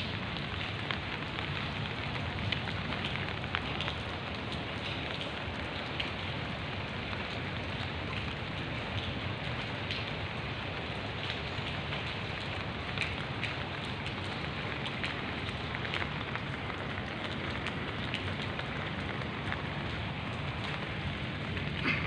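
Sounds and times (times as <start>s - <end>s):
rain on leaves: 0.0s - 22.0s.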